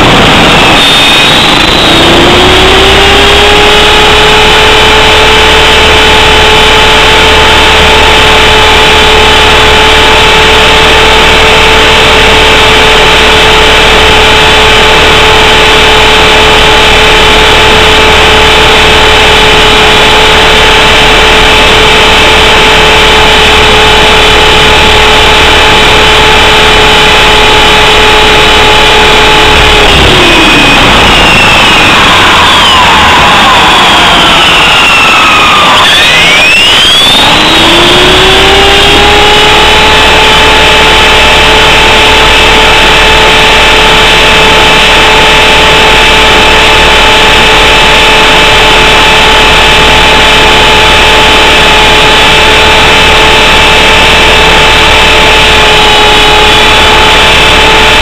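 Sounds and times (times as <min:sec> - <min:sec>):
rc helicopter motor and rotor whine: 0:00.0 - 0:58.0.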